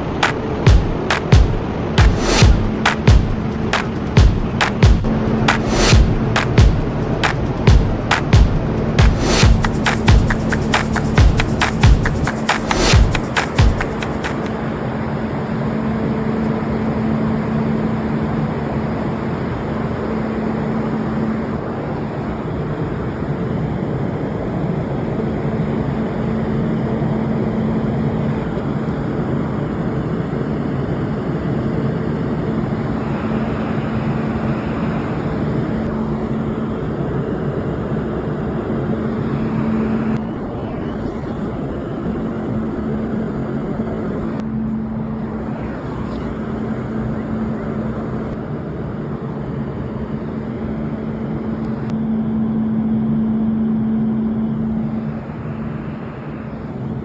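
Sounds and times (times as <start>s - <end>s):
constant low hum: 0.0s - 57.0s
cooling fans rushing air: 0.0s - 57.0s.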